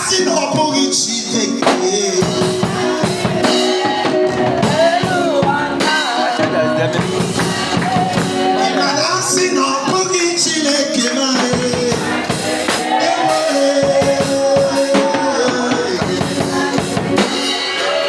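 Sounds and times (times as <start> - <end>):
drum kit beat: 0.0 - 18.0
people singing: 0.0 - 18.0.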